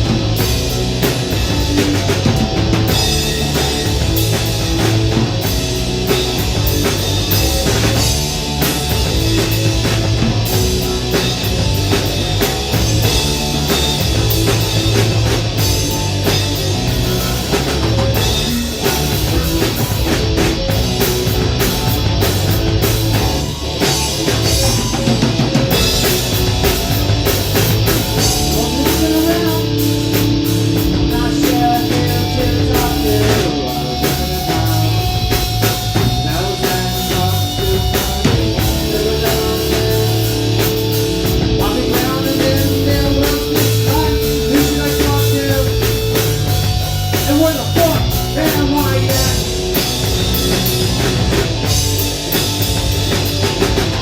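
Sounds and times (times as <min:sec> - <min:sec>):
drum kit: 0:00.0 - 0:54.0
guitars: 0:00.0 - 0:54.0.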